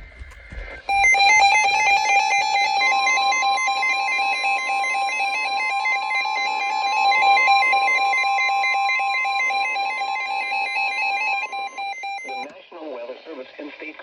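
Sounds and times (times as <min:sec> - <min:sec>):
steady long alarm tone: 0:00.7 - 0:12.5.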